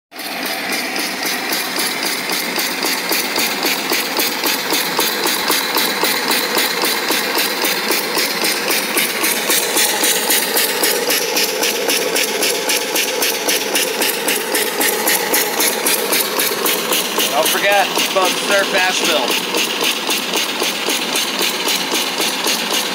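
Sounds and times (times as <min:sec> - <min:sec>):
steam engine exhaust chuffs: 0:00.1 - 0:22.9.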